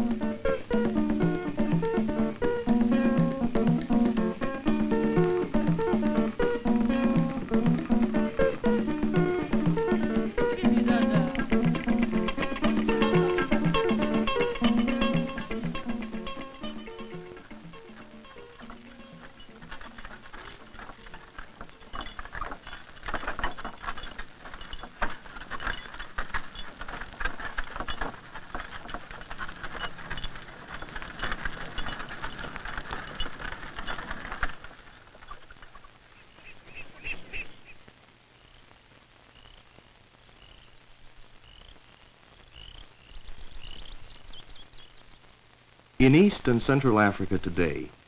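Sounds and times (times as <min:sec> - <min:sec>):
dense crackling patter: 0:00.0 - 0:48.0.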